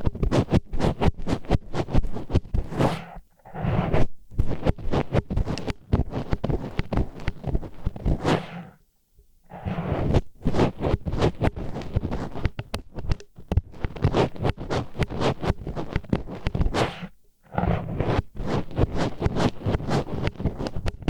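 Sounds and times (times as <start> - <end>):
wooden chopsticks scratching microphone: 0.0 - 8.8, 9.5 - 21.0.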